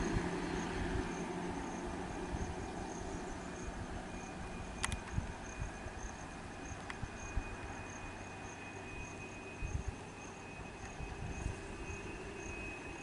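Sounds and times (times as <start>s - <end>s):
insects buzzing high whine: 0.0s - 13.0s.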